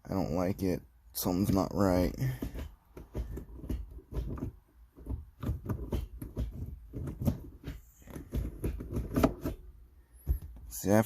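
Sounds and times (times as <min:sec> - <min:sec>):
gear shifter knock: 0:01.3 - 0:10.7
gear shifter clicks and clunks: 0:01.3 - 0:10.8.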